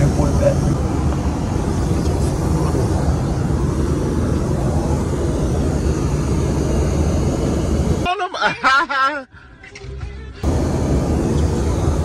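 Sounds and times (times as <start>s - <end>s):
airliner cabin drone: 0.0s - 8.1s, 10.4s - 12.0s.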